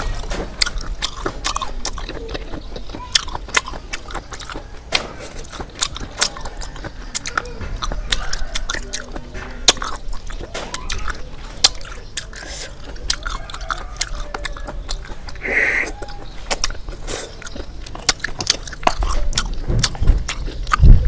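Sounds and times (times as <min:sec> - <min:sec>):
wet chewing and biting: 0:00.0 - 0:21.0.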